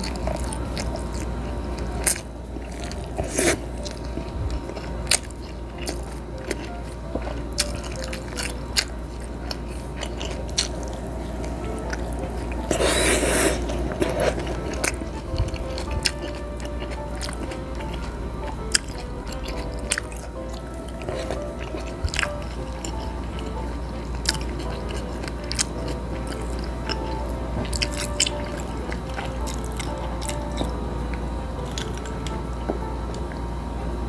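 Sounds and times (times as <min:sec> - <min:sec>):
chewing with wet smacks: 0:00.0 - 0:33.4.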